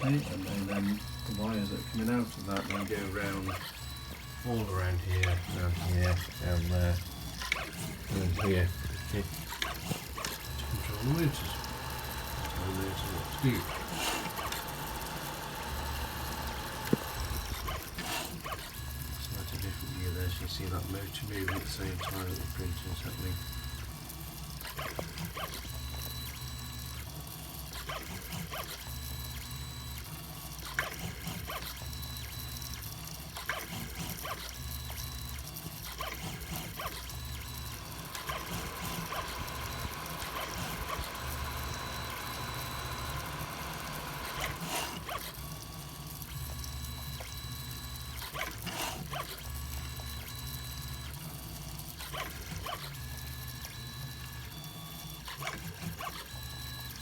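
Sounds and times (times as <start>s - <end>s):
stepper motors buzzing: 0.0s - 57.0s.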